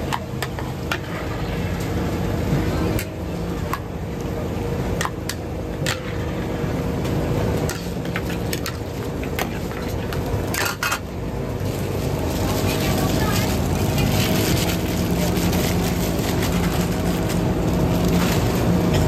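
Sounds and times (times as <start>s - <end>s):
market background noise: 0.0s - 19.0s.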